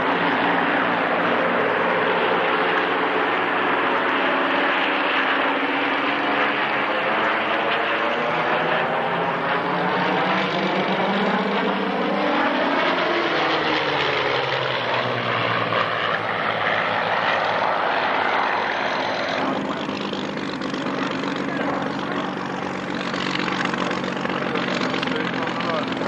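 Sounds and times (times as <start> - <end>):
propeller aircraft flying past: 0.0 - 26.0.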